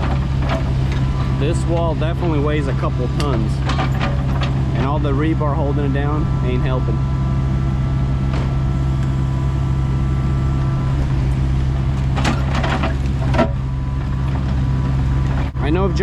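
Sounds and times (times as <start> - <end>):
excavator diesel engine running: 0.0 - 16.0
thin steady whine: 0.0 - 16.0.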